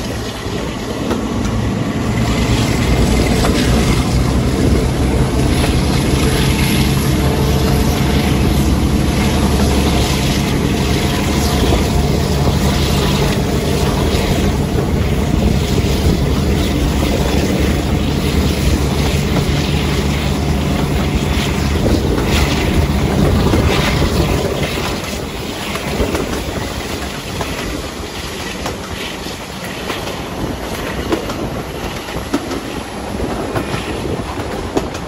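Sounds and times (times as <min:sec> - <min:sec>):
diesel locomotive engine running: 0:00.0 - 0:35.0
train wheels rumbling: 0:00.0 - 0:35.0
wind buffeting microphone: 0:00.0 - 0:35.0.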